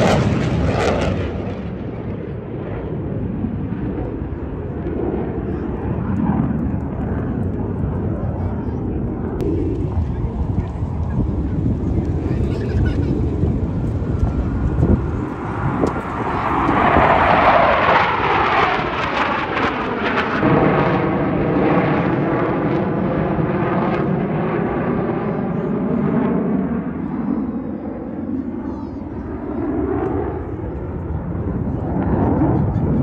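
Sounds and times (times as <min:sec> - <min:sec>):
jets flying past: 0:00.0 - 0:33.0.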